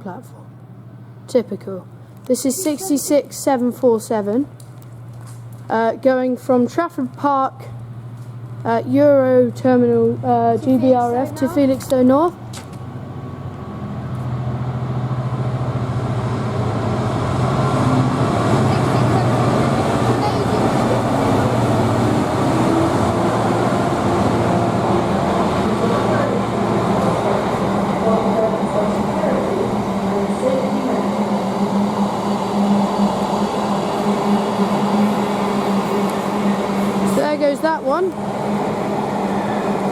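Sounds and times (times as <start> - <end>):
diesel locomotive engine drone: 0.0 - 39.9
freight train rolling past: 0.4 - 39.9.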